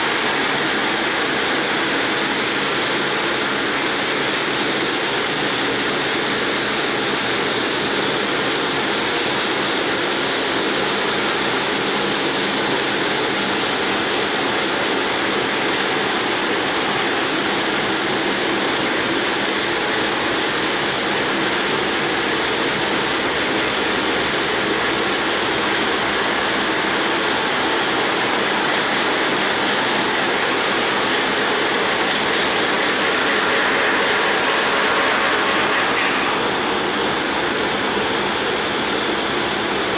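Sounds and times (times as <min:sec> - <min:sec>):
cooling water spray: 0:00.0 - 0:39.9.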